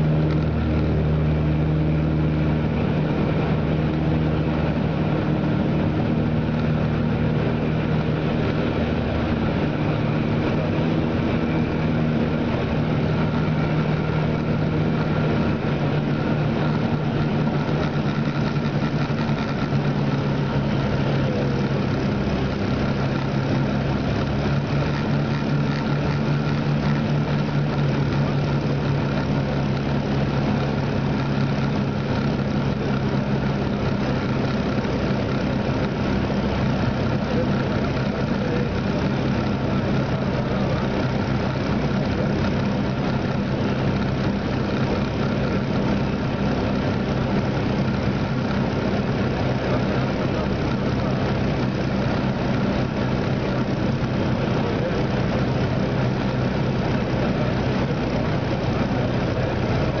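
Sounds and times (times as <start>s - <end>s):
aircraft engines droning: 0.0s - 60.0s.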